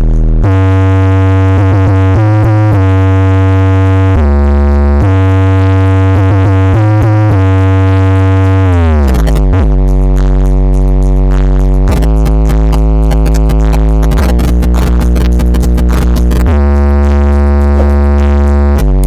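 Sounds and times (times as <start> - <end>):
loud electronic bass music: 0.0 - 19.0.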